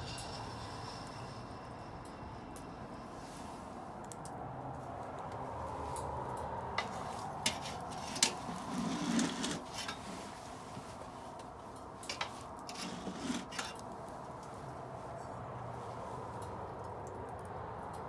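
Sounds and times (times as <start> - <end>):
fire popping: 0.0 - 14.9
wood fire crackling: 0.0 - 18.0.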